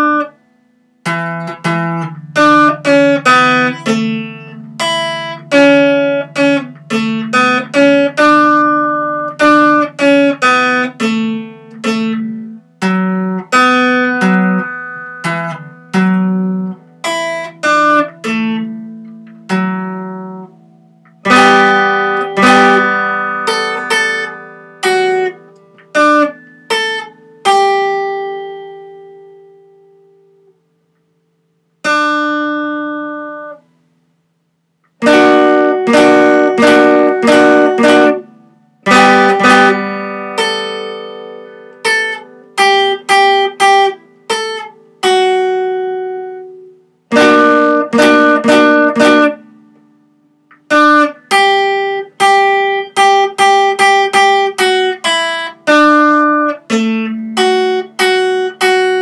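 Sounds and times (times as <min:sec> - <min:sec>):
acoustic guitar strumming chords: 0:00.0 - 0:34.2, 0:34.8 - 0:59.0.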